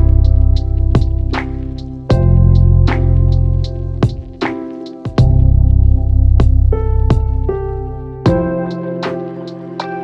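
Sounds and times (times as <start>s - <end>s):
sustained bass and chords: 0.0s - 10.0s.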